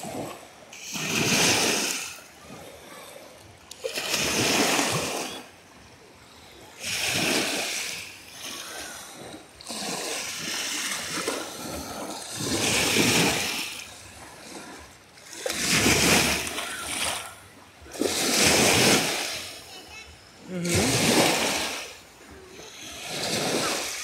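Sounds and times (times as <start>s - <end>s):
waves washing on sandy shore: 0.0s - 24.0s.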